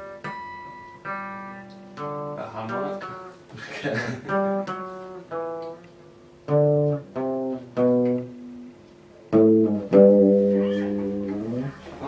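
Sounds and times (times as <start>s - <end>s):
clean electric guitar notes: 0.0s - 3.5s, 4.2s - 12.0s.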